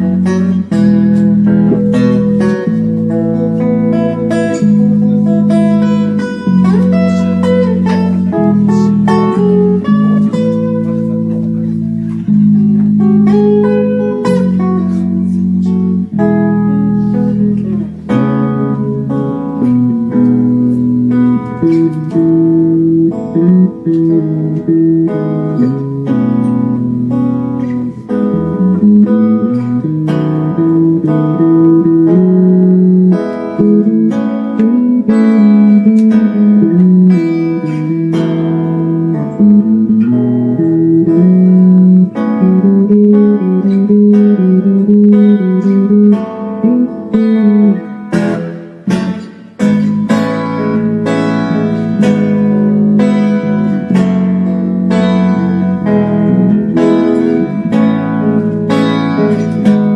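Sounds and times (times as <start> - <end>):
guitar playing: 0.0 - 59.9.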